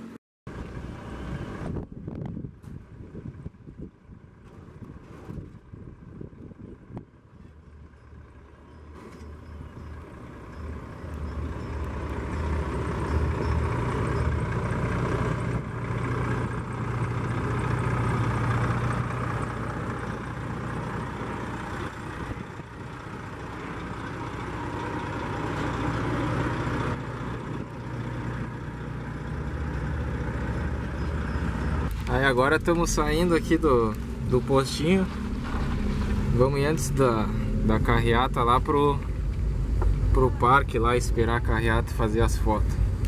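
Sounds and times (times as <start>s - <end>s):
truck diesel engine running: 0.5s - 43.0s.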